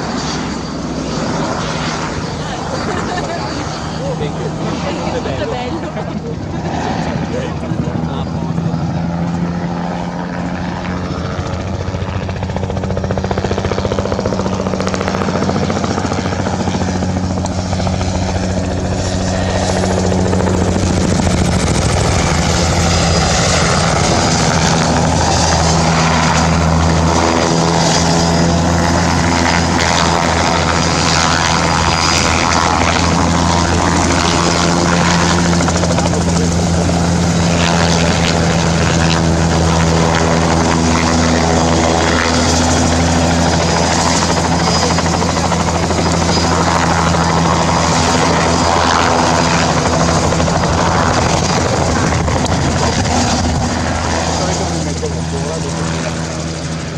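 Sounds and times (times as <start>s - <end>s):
helicopter flying low: 0.0s - 56.9s.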